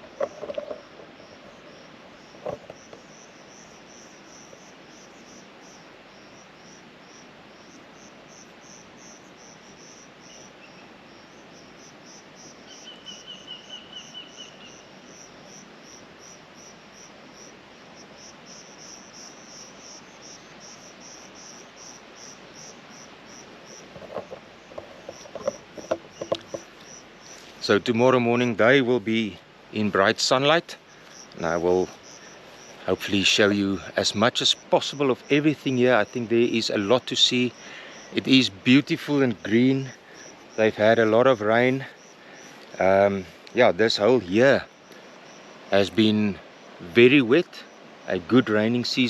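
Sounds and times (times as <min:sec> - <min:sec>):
crickets chirping: 0:00.0 - 0:49.0
insect trilling at lower pitch: 0:00.0 - 0:49.0.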